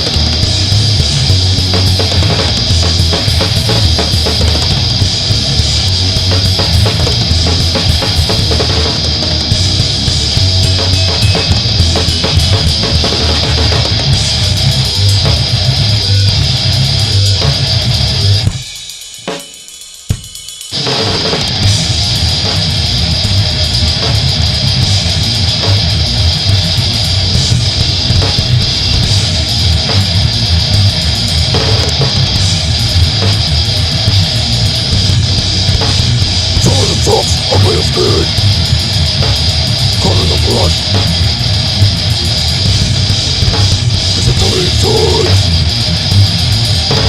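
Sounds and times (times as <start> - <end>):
heavy metal band playing: 0.0 - 47.0.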